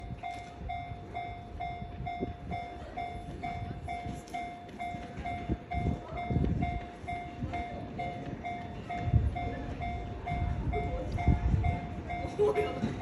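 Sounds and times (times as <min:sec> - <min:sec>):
level crossing alarm bell: 0:00.0 - 0:13.0.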